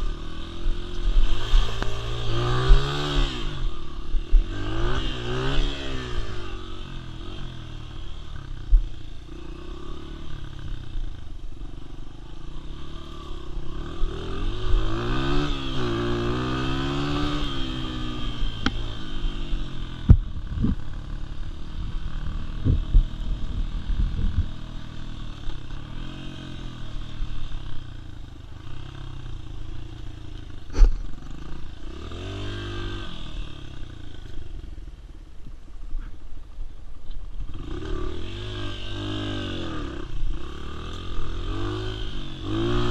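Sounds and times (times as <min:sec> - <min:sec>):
dirt bike engine revving: 0:00.0 - 0:34.6, 0:37.4 - 0:42.9.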